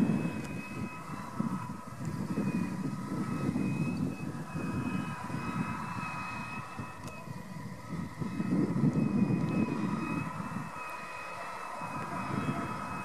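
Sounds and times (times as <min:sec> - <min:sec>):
steady high whine: 0:00.0 - 0:13.0
tractor diesel engine rumble: 0:00.0 - 0:13.0.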